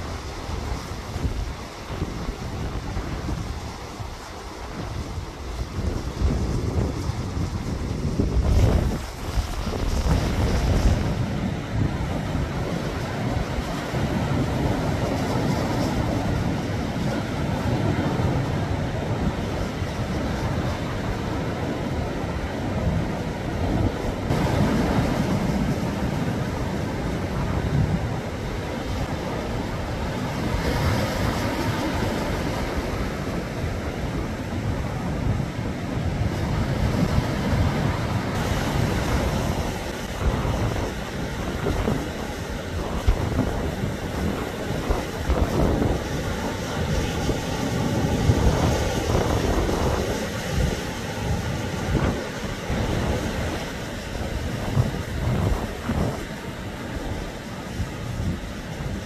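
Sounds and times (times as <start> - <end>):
gusty wind on microphone: 0.0 - 59.0
sea surf breaking on rocks: 0.0 - 59.0.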